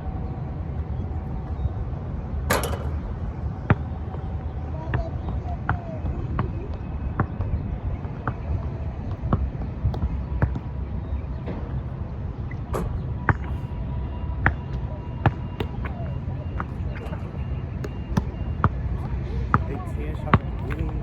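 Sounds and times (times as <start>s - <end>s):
basketball bouncing thuds: 2.5s - 21.0s.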